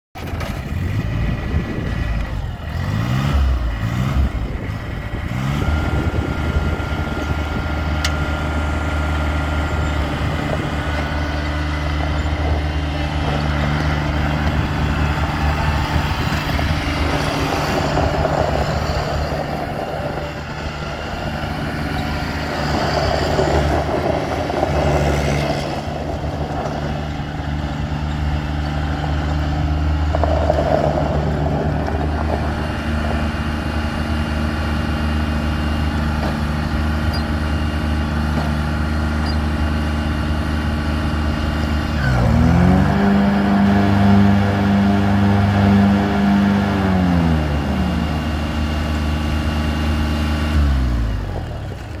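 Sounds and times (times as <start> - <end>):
mower diesel engine running: 0.2 - 52.0.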